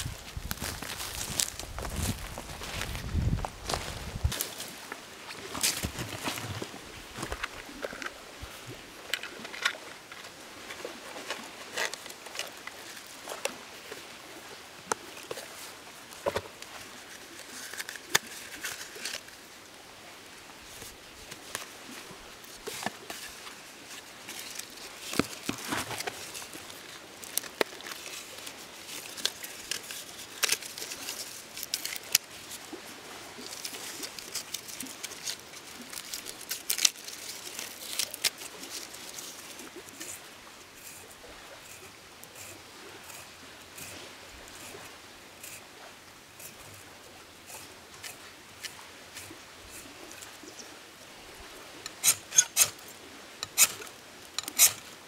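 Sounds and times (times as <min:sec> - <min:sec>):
rustling tinder and sticks: 0:00.0 - 0:14.1, 0:14.8 - 0:19.6, 0:20.6 - 0:50.7, 0:51.8 - 0:55.0.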